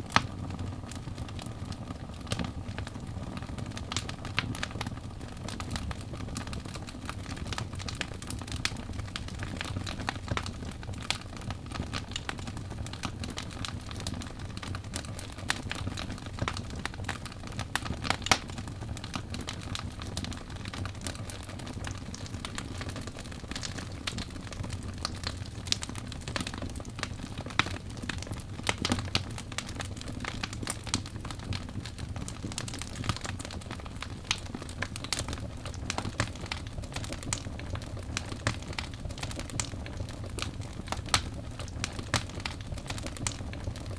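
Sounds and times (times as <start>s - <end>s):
fire rumbling: 0.0s - 43.9s
logs crackling and popping: 0.0s - 43.9s.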